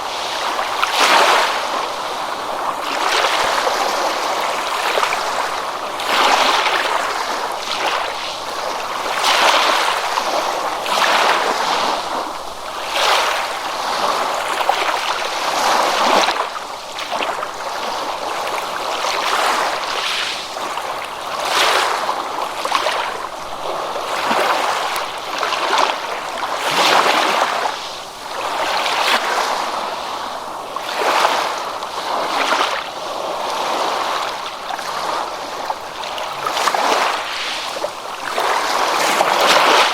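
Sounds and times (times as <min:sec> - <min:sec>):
ocean water washing and splashing: 0:00.0 - 0:39.9.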